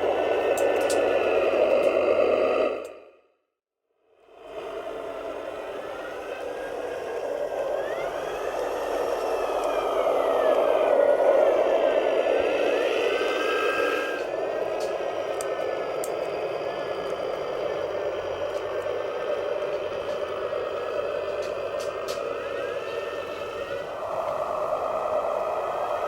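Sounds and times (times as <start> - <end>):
small electric motors whirring: 0.0 - 3.0, 4.5 - 26.0
thin motor whine gliding in pitch: 4.2 - 26.0.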